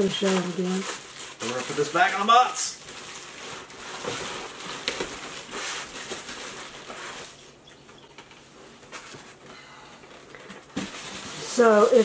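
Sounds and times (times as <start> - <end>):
packaging rustling: 0.0 - 9.4, 10.0 - 12.0.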